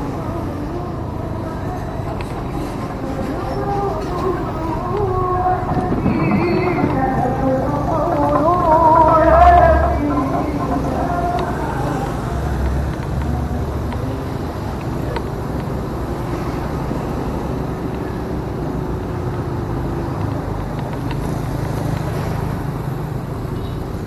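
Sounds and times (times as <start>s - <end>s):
road and traffic noise: 0.0s - 24.0s.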